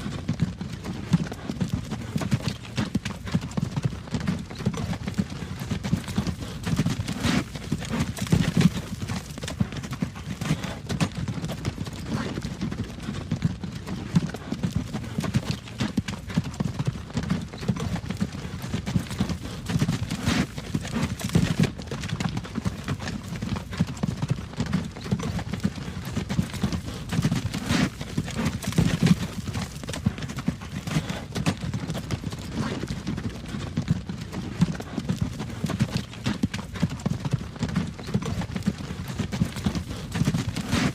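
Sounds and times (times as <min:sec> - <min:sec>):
hooves clip-clopping: 0:00.0 - 0:40.9
wagon wheels rumbling: 0:00.4 - 0:40.9.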